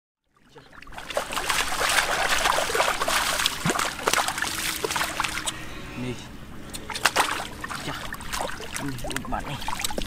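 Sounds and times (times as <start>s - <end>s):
muddy water splashing: 0.4s - 5.7s, 6.6s - 10.0s.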